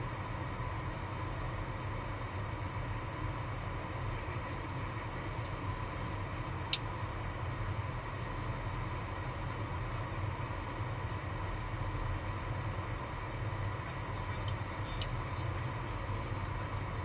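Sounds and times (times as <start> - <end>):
rushing airflow ventilation noise: 0.0 - 17.0.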